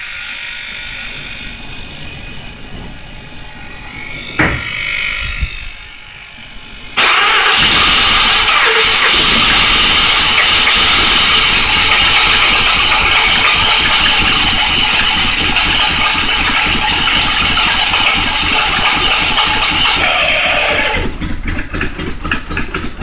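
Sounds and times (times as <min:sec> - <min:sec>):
engine running rough: 0:00.0 - 0:23.0.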